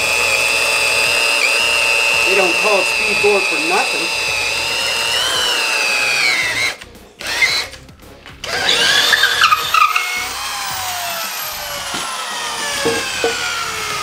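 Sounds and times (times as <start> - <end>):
drill bit rattling: 0.0 - 7.8, 8.4 - 14.0
power drill whining: 0.0 - 14.0.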